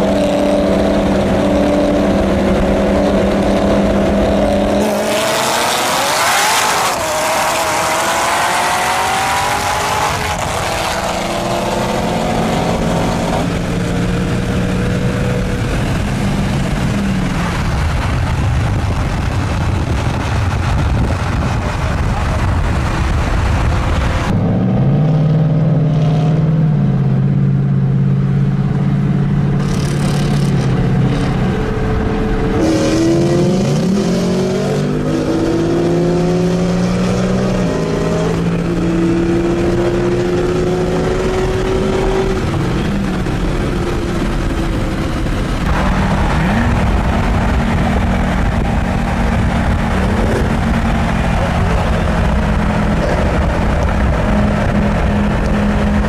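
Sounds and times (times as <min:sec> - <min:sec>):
loud rushing noise: 0:00.0 - 0:26.6, 0:28.6 - 0:56.0
car engine revving: 0:00.0 - 0:56.0.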